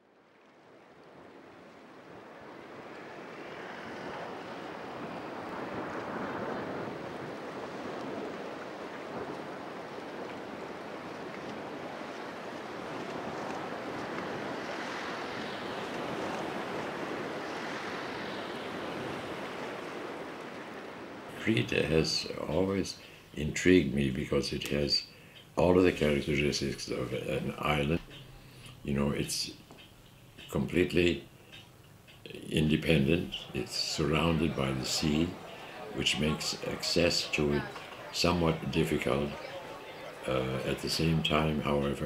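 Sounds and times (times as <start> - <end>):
sea waves washing: 0.0 - 42.0.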